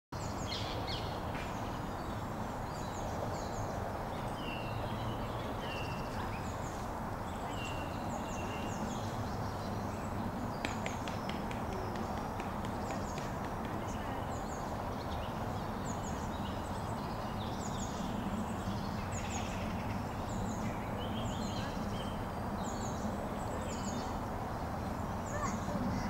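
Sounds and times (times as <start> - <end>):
outdoor background hiss: 0.2 - 26.0.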